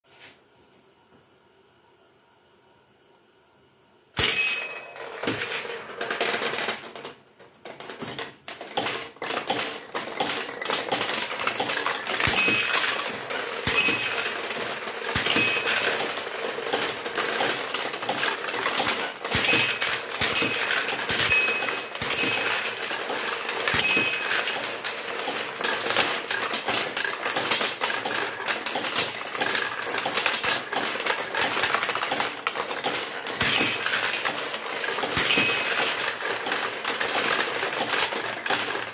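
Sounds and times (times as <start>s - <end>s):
steel balls clattering: 4.2s - 38.9s.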